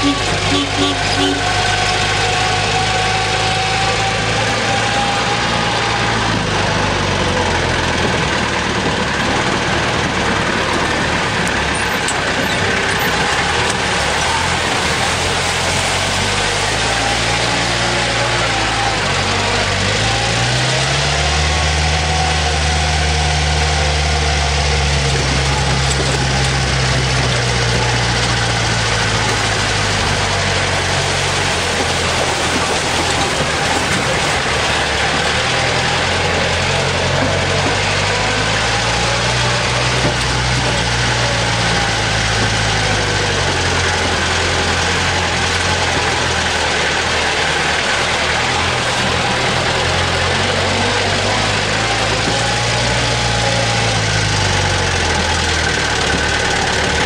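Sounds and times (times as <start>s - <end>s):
jeep engine running: 0.0s - 57.0s
wheels rushing on wet riverbed: 0.0s - 57.0s.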